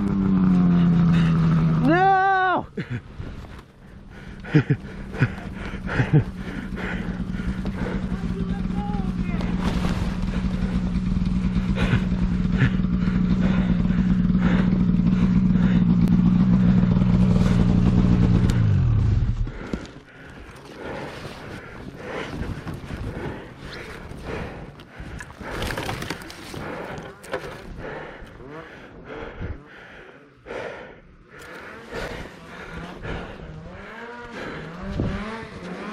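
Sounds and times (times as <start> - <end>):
snowmobile engine at high revs: 0.0 - 35.9.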